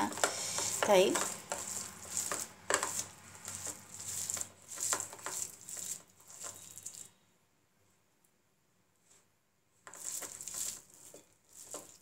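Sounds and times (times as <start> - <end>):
hand squishing mashed potato: 0.0 - 7.1, 9.1 - 12.0.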